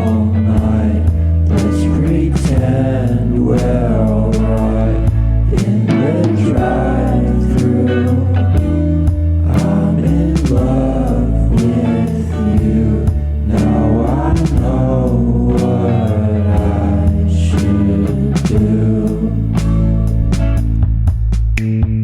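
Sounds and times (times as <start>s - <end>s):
song with singing voice: 0.0s - 20.7s.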